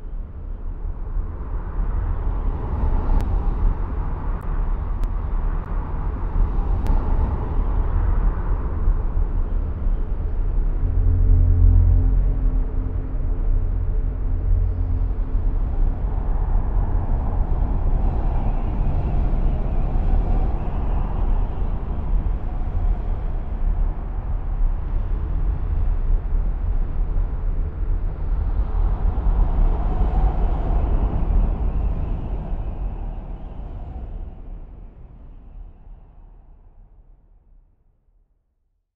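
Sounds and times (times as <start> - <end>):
steady low rumble: 0.0 - 37.5.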